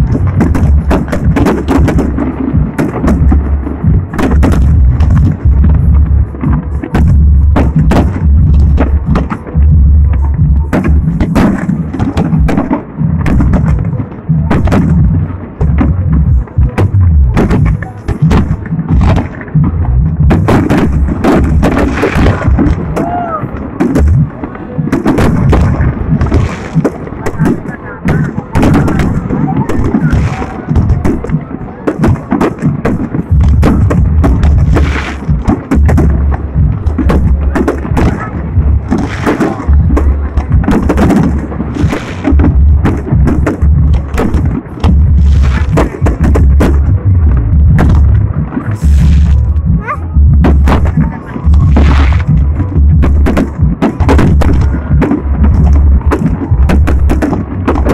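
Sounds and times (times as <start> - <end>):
deep booming rumble: 0.0 - 57.9
fireworks bursting with sharp bangs: 0.0 - 57.9.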